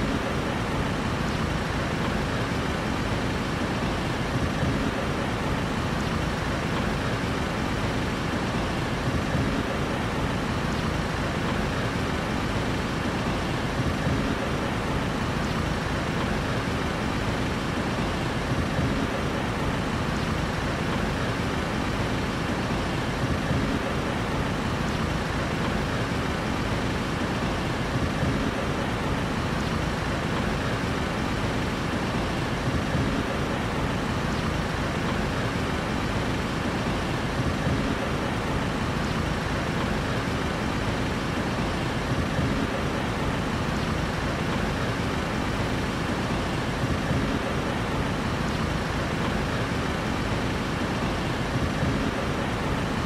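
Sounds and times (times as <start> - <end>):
steady road traffic: 0.0 - 53.0.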